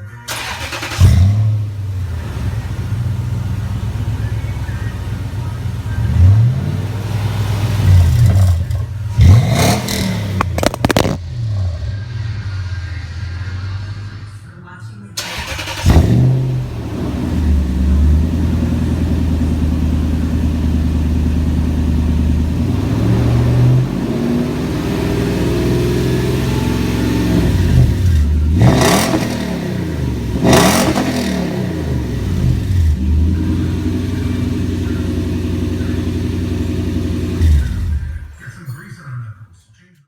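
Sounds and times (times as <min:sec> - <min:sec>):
truck engine idling: 0:00.2 - 0:14.4, 0:15.2 - 0:39.1
engine revving: 0:00.3 - 0:14.3, 0:15.2 - 0:38.4.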